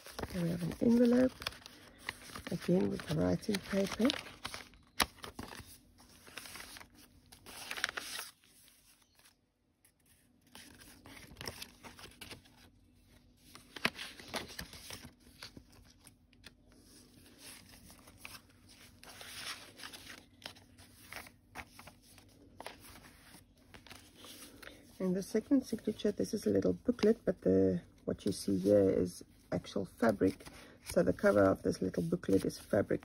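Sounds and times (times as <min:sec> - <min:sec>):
paper rustling and crinkling: 0:00.0 - 0:27.4, 0:28.1 - 0:33.0.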